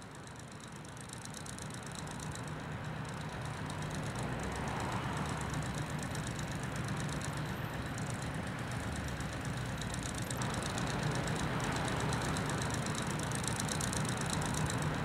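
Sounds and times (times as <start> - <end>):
faint rapid ticking: 0.0 - 15.0.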